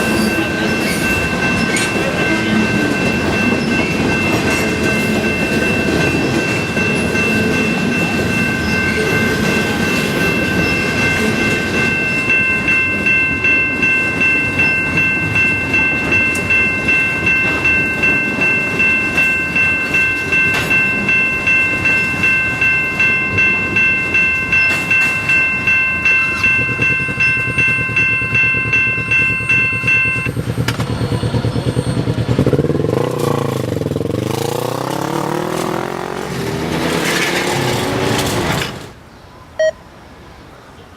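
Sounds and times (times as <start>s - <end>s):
train wheels clicking over rail joints: 0.0s - 39.0s
sweeping rush of passing train: 0.0s - 40.9s.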